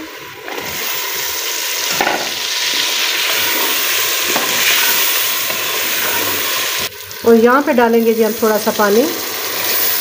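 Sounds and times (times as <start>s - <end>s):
spices sizzling in a pot: 0.0s - 10.0s.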